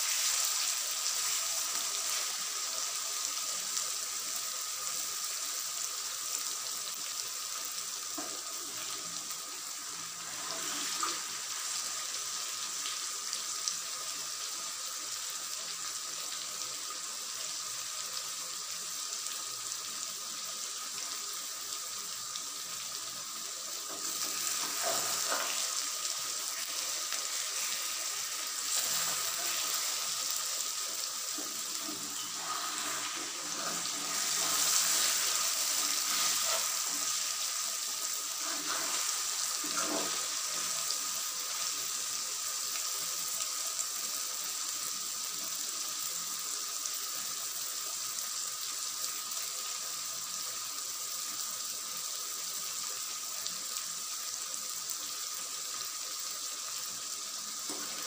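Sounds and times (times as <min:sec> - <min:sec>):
curry simmering in a pan: 0:00.0 - 0:58.0.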